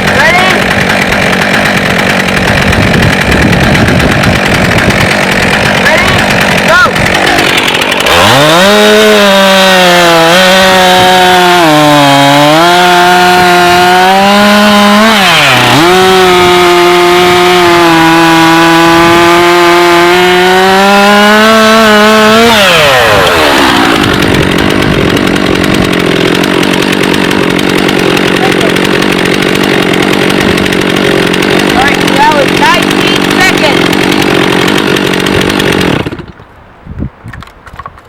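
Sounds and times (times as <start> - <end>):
chainsaw cutting log: 0.0 - 36.5.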